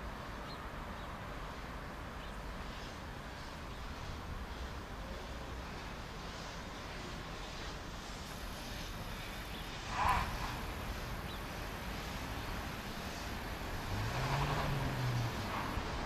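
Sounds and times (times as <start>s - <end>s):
steam hissing from locomotive: 2.5s - 16.0s.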